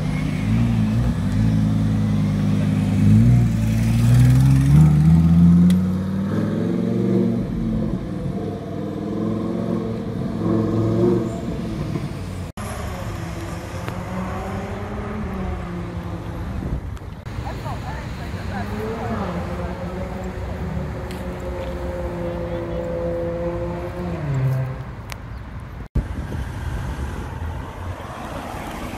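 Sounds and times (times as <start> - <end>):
car engine revving: 0.0 - 16.8, 18.4 - 24.9.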